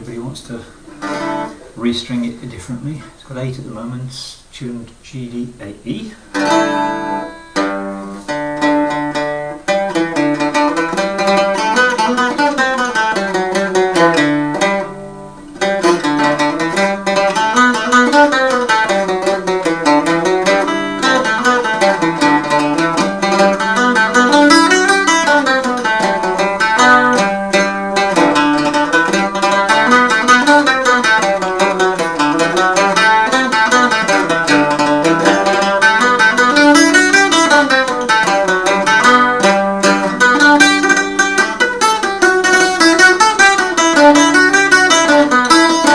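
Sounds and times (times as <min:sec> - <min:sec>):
plucked string instrument: 0:00.0 - 0:04.0, 0:04.6 - 0:45.9.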